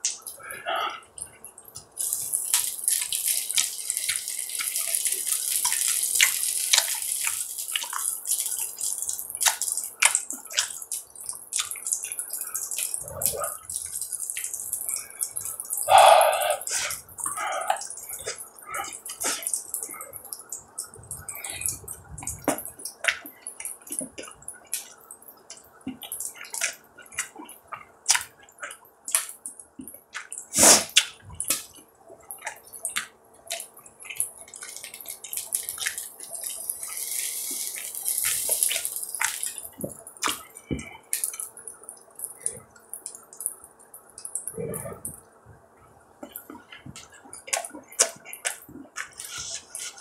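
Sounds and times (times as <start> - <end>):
fat crackling and popping: 0.0 - 50.0.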